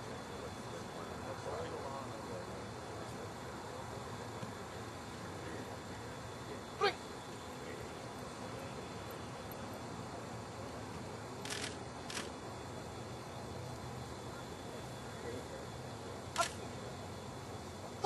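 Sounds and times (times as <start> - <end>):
outdoor field ambience hiss: 0.0 - 18.0.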